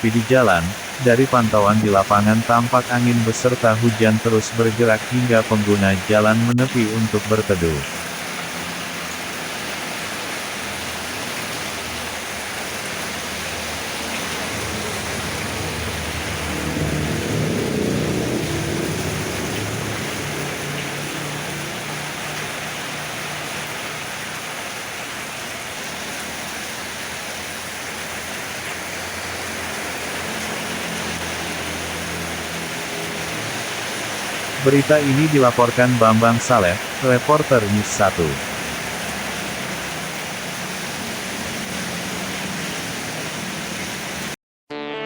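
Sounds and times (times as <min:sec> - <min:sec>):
heavy rain: 0:00.0 - 0:44.4.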